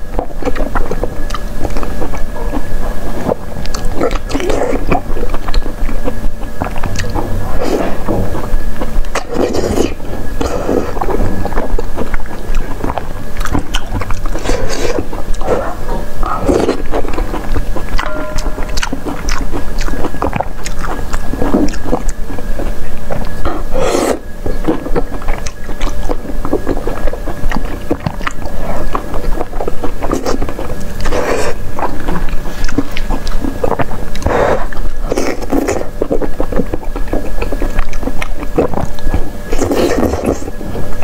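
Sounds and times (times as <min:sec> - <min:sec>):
wet chewing and slurping: 0:00.0 - 0:41.0
sticky mouth clicks: 0:00.1 - 0:41.0.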